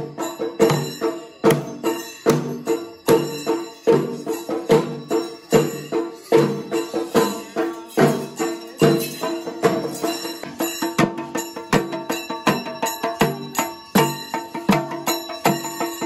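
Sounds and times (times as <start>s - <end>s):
drum beaten with stick: 0.0s - 16.0s
ringing metal strikes: 0.0s - 16.0s.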